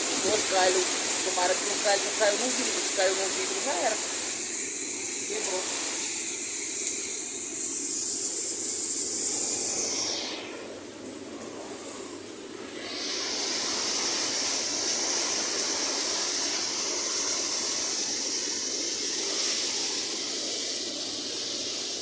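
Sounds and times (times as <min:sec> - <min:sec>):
heavy rain and wind: 0:00.0 - 0:22.0.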